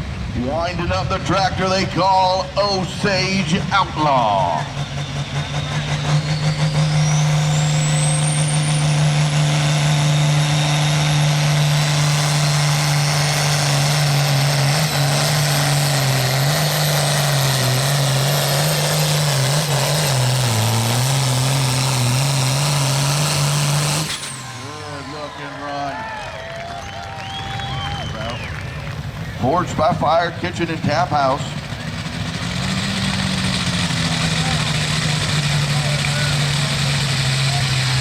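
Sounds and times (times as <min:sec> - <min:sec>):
high engine whine: 0:00.0 - 0:38.0
tractor engine at full throttle: 0:00.0 - 0:38.0.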